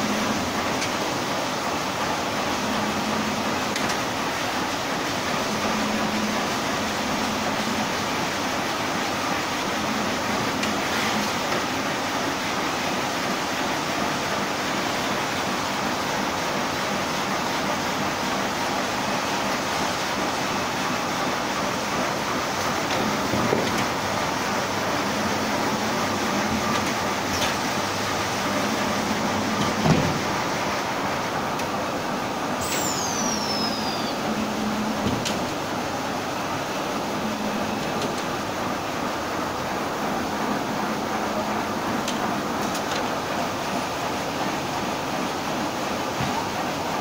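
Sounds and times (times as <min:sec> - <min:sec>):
shrink-wrapping machine blower noise: 0:00.0 - 0:47.0.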